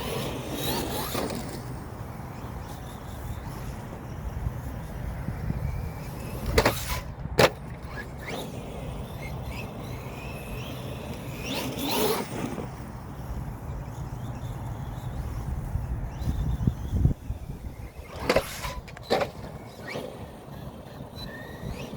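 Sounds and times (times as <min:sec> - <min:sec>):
electric motor whining: 0:00.0 - 0:21.9.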